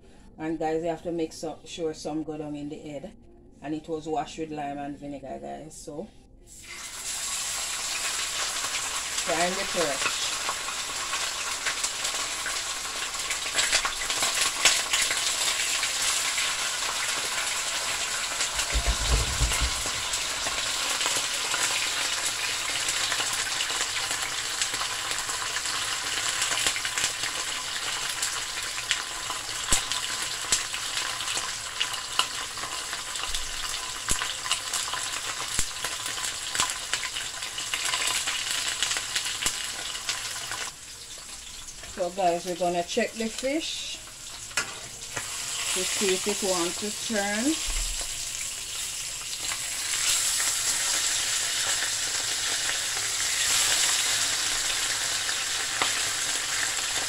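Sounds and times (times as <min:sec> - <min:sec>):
fish frying in hot oil: 0:06.6 - 0:57.0.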